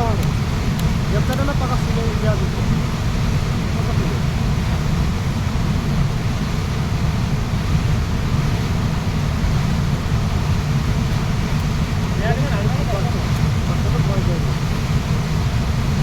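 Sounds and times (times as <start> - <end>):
waterfall rushing water: 0.0 - 16.0.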